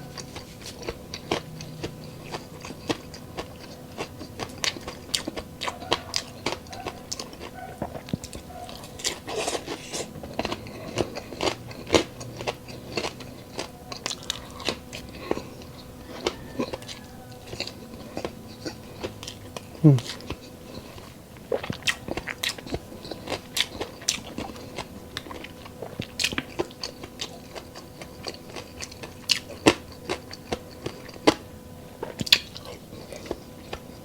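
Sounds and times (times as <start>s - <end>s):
chewing crispy food: 0.0s - 34.0s.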